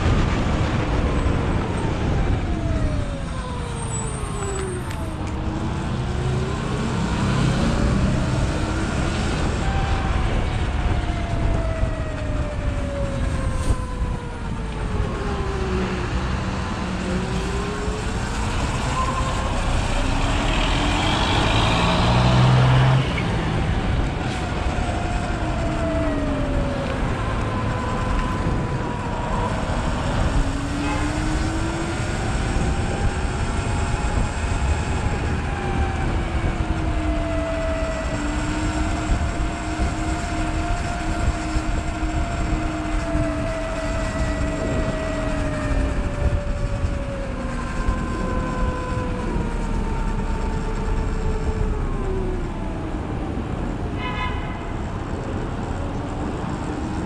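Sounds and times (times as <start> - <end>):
road rumble: 0.0 - 57.0
wind: 0.0 - 57.0.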